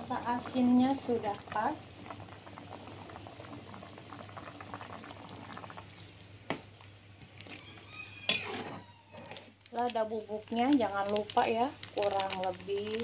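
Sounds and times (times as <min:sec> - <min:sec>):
broth bubbling at a boil: 0:00.0 - 0:13.0.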